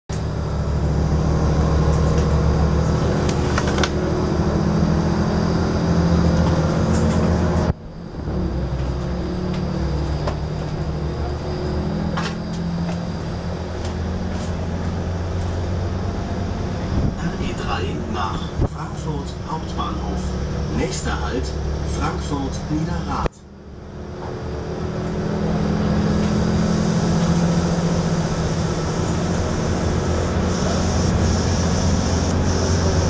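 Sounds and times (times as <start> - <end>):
train running gear humming: 0.1 - 33.0.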